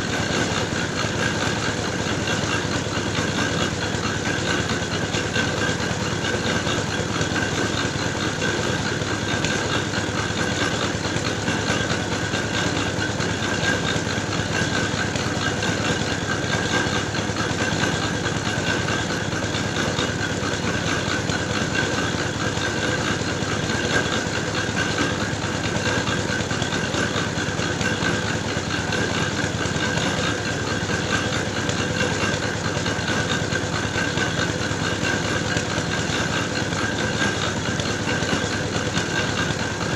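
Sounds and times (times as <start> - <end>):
clay grinding mill droning: 0.0 - 39.9.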